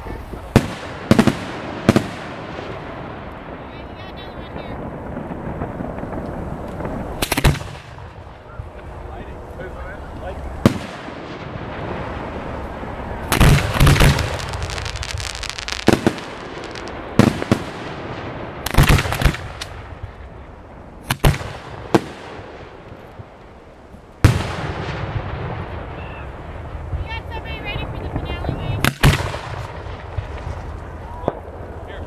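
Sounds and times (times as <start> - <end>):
firework booms: 0.0 - 32.0.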